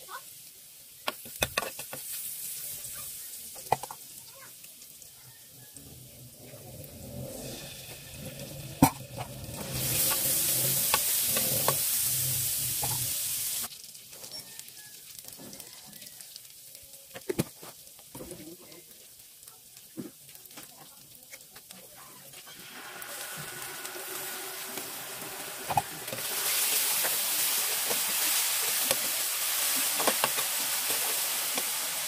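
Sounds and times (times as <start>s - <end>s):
garlic frying in oil: 0.0s - 32.0s
loud sizzle of sauce in oil: 0.0s - 32.0s.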